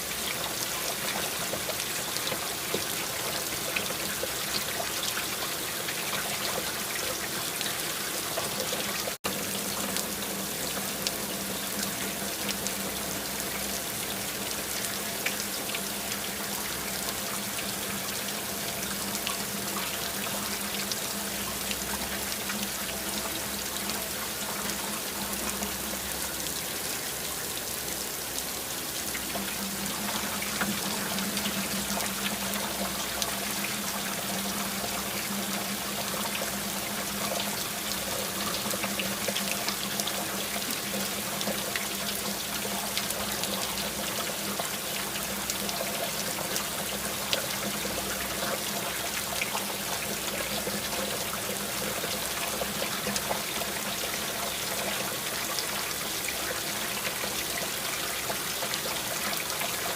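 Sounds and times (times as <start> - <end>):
rain pattering: 0.0 - 59.9
water trickling and pouring: 0.0 - 59.9.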